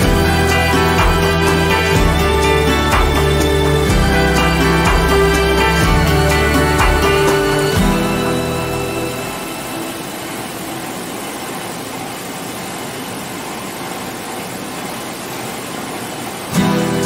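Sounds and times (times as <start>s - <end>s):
milling machinery whirring: 0.0s - 17.0s.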